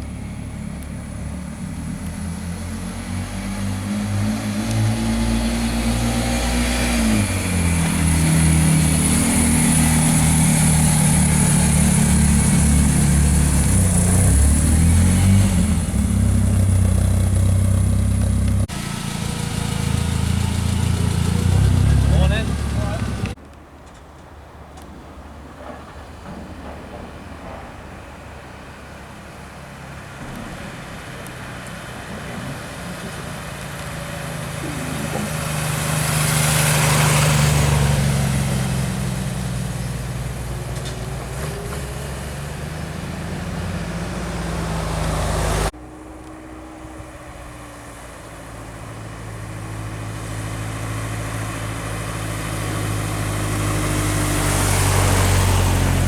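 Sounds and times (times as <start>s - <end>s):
cars passing by: 0.0s - 56.0s.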